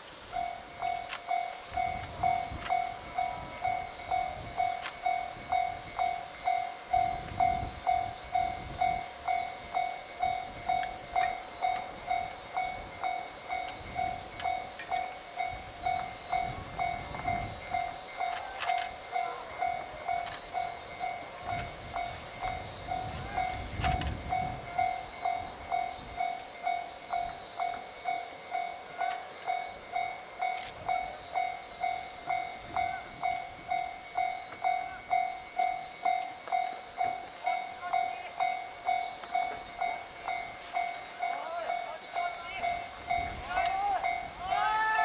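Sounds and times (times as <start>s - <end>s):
level crossing warning bell: 0.0s - 45.0s.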